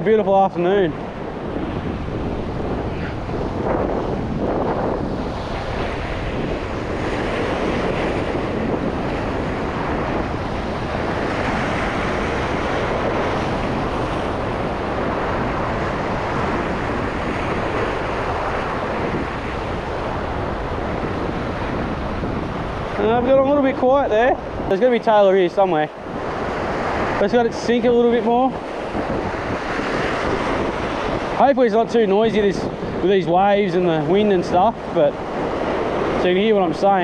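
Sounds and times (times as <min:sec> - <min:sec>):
ocean waves breaking on rocks: 0:00.0 - 0:37.0
wind buffeting microphone: 0:00.0 - 0:37.0.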